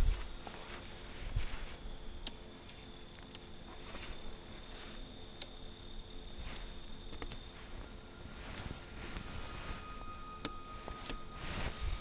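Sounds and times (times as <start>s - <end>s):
crickets trilling: 0.0s - 12.0s
handling clicks and rustles: 0.0s - 12.0s.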